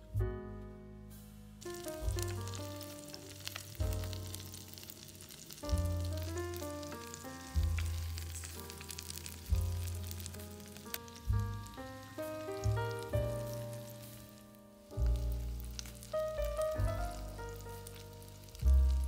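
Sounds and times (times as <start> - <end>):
background music with bass: 0.0 - 19.0
food sizzling in hot oil: 1.6 - 19.0.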